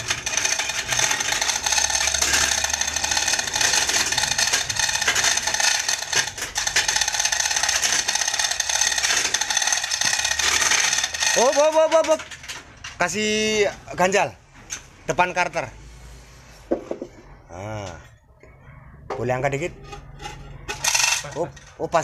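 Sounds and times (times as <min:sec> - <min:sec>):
metallic rattling and scraping: 0:00.0 - 0:17.2, 0:19.2 - 0:22.0.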